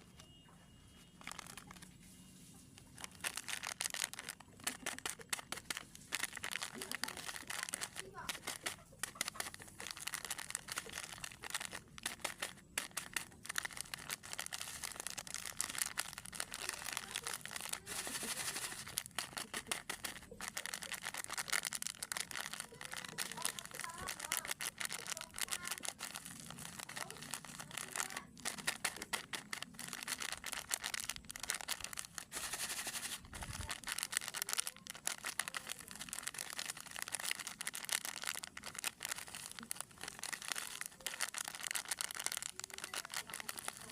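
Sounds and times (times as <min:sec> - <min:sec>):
plastic wrappers crinkling: 0:00.9 - 0:43.9.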